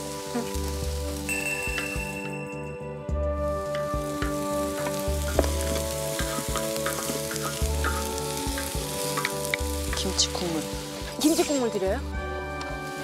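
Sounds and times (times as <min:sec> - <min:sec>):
onions sizzling in oil: 0:00.0 - 0:02.7, 0:03.3 - 0:13.0.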